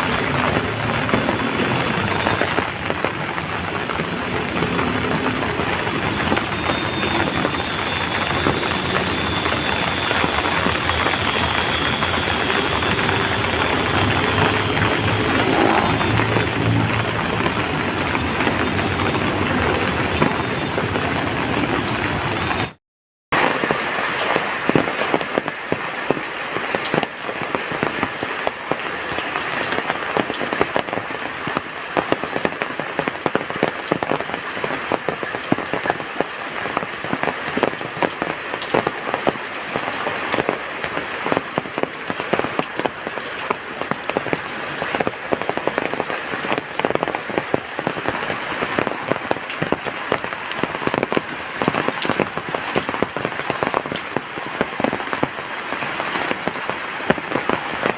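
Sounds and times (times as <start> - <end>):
heavy rain falling: 0.0 - 22.8, 23.4 - 57.9.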